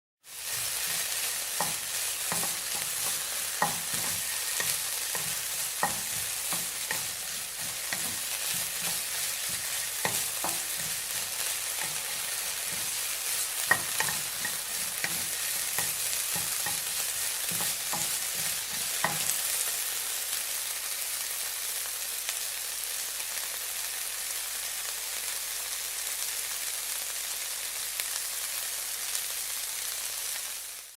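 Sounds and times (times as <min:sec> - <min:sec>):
food sizzling: 0:00.2 - 0:30.9.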